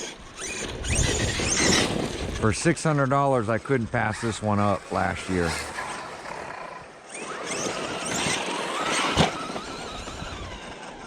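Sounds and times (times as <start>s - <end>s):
electric motor whining: 0.0s - 3.0s, 3.6s - 11.0s
tyres rushing on dirt: 0.0s - 11.0s.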